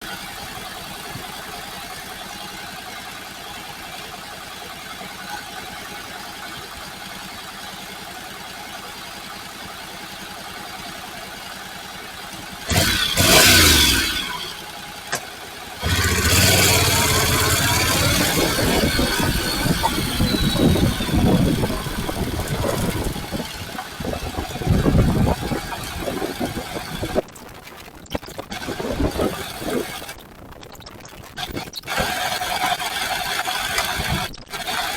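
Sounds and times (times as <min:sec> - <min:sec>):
motorcycle engine revving: 0:00.0 - 0:27.3, 0:28.5 - 0:30.2, 0:31.4 - 0:34.9.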